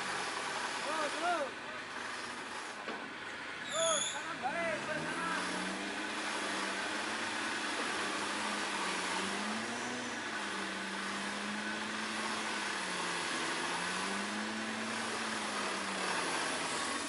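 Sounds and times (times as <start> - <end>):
off-road vehicle engine humming: 0.0 - 17.0.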